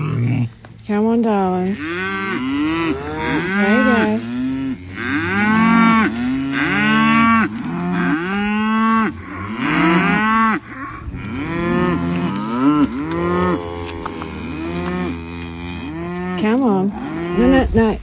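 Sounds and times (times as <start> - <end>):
cattle mooing loudly: 1.6 - 17.7.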